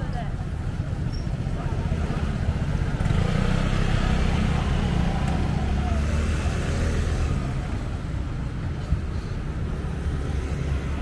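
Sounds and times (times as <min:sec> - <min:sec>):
steady low traffic rumble: 0:00.0 - 0:11.0
motor vehicle running close: 0:01.1 - 0:11.0.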